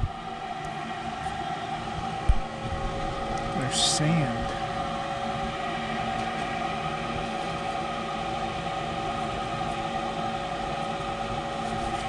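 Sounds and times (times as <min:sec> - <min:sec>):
furnace motor humming: 0:00.0 - 0:12.0.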